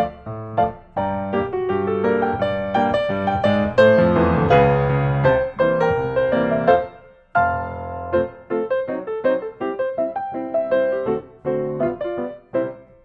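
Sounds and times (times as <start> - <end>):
piano music single notes: 0.0 - 13.0.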